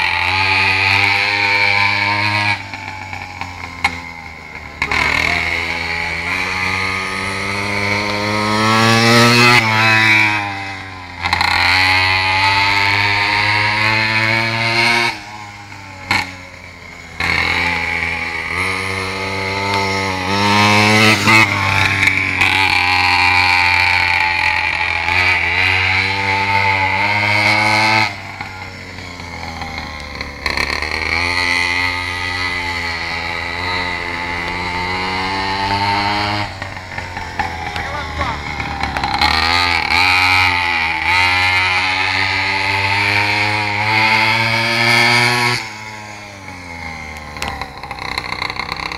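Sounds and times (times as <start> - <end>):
small motorbike engine revving: 0.0 - 48.9.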